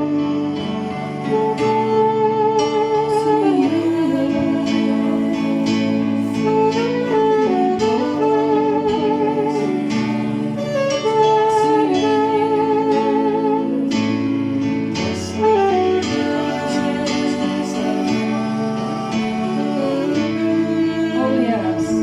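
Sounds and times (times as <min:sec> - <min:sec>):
lead melody with vibrato: 0:00.0 - 0:22.0.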